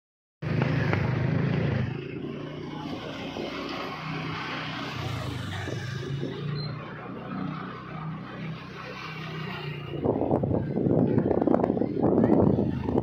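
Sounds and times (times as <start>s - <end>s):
motorbike engines passing: 0.4s - 13.0s.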